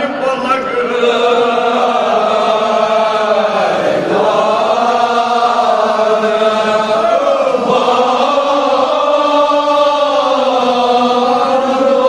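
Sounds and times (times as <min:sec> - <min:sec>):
men chanting in chorus: 0:00.0 - 0:12.0.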